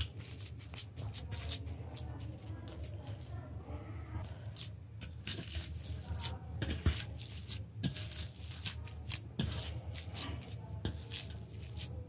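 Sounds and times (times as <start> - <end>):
hands squishing food mixture: 0.0 - 12.0.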